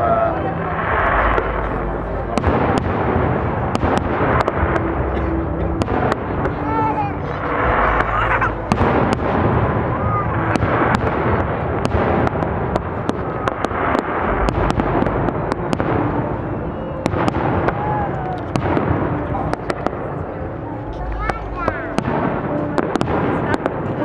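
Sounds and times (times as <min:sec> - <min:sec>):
fireworks cracks and bangs: 0:00.0 - 0:20.4, 0:21.0 - 0:24.0
fireworks crackle: 0:00.0 - 0:24.0.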